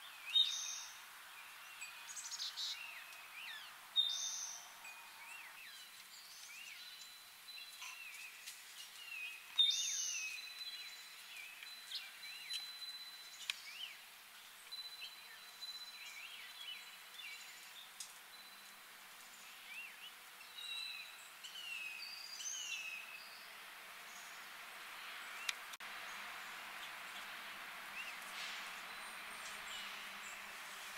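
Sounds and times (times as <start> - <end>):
faint outdoor hiss: 0.0 - 30.9
songbirds chirping: 0.0 - 30.9.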